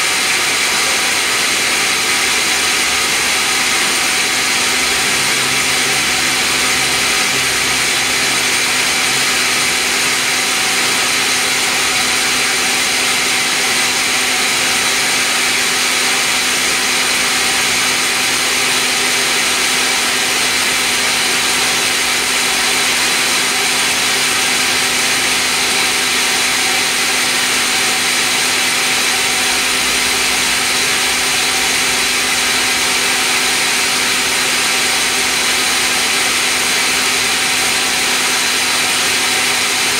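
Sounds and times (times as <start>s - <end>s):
band saw machinery running: 0.0s - 39.9s.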